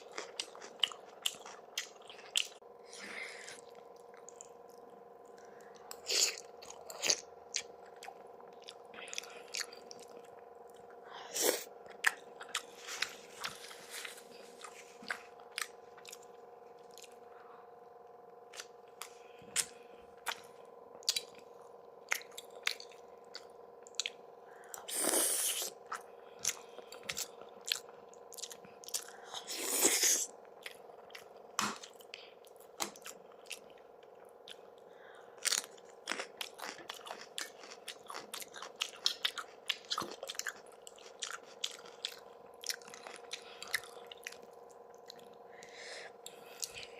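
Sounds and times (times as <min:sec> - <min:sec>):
wet chewing: 0:00.0 - 0:17.3, 0:18.5 - 0:46.9
faint steady hum: 0:00.0 - 0:46.9.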